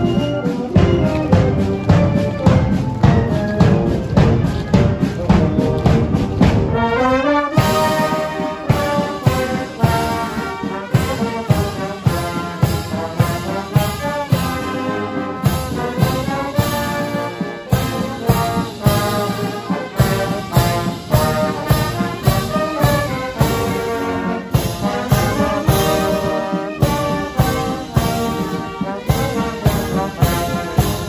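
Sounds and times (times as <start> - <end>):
brass chords: 0.0 - 31.0
steady marching drumbeat: 0.0 - 31.0.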